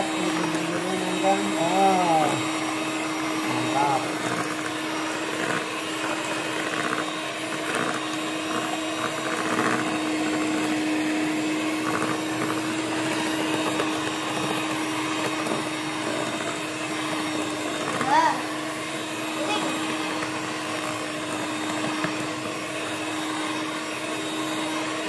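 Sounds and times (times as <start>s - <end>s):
electric hand mixer whipping batter: 0.0s - 25.0s.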